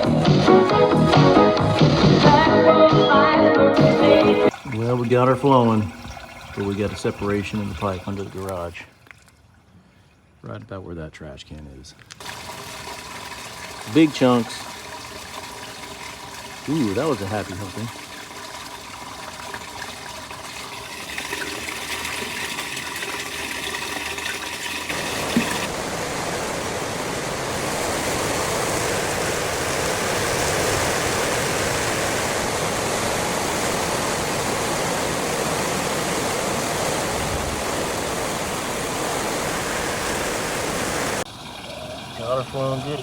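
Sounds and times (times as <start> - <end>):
wastewater rushing from drain: 3.8 - 10.1, 12.2 - 43.0.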